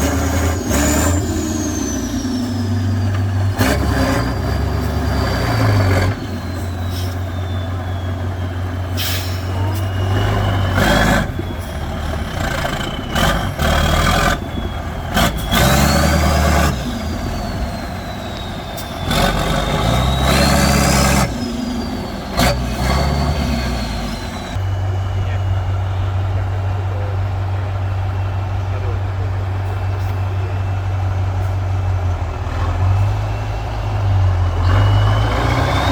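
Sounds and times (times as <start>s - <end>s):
diesel truck engine under load: 0.0s - 35.9s.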